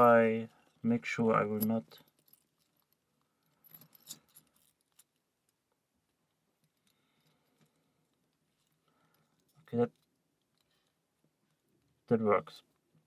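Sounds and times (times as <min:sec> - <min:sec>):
faint metallic clicks and scrapes: 0:00.0 - 0:12.0.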